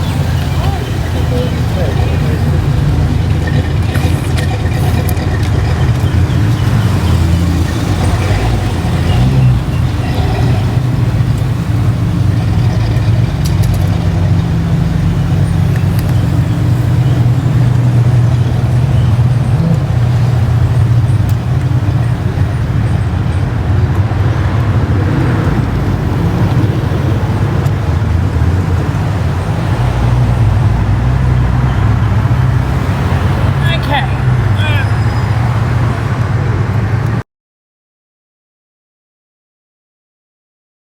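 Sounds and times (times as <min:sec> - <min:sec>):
car engines running: 0:00.0 - 0:37.2
steady low traffic rumble: 0:00.0 - 0:37.2.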